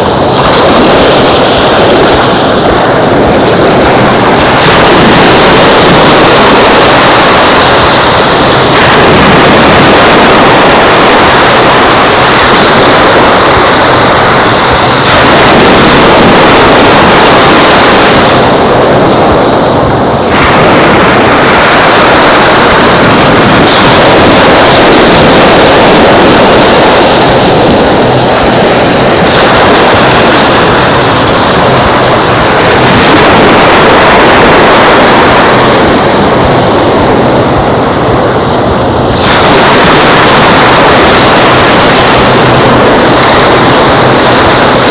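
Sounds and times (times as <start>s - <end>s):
ocean surf rushing: 0.0s - 44.9s
wind buffeting microphone: 0.0s - 44.9s.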